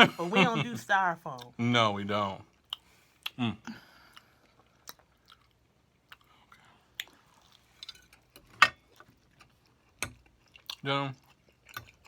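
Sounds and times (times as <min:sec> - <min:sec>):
chewing with crisp crackles: 0:02.3 - 0:12.0.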